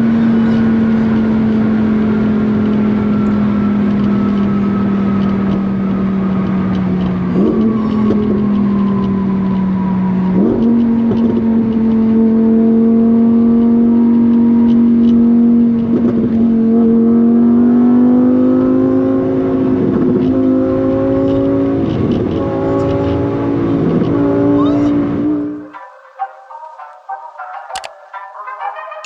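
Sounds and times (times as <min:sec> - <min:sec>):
car engine accelerating: 0:00.0 - 0:25.7.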